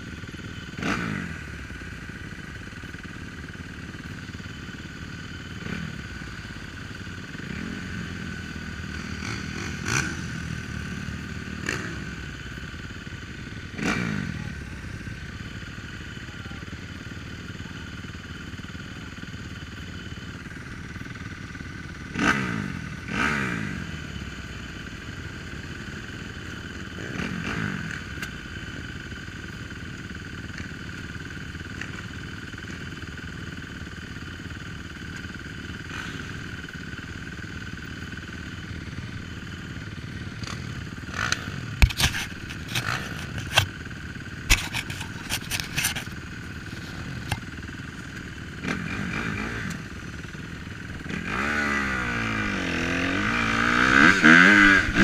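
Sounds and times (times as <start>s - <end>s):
dirt bike engines idling: 0.0s - 55.0s.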